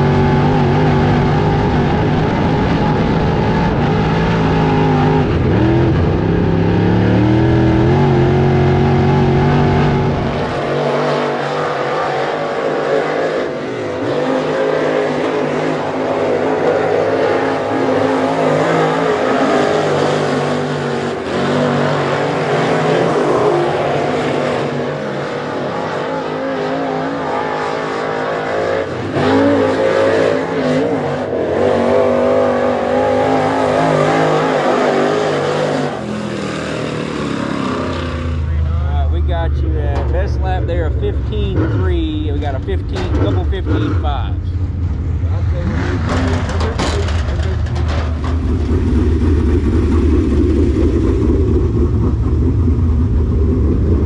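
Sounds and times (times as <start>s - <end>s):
race car engine: 0.0s - 54.0s.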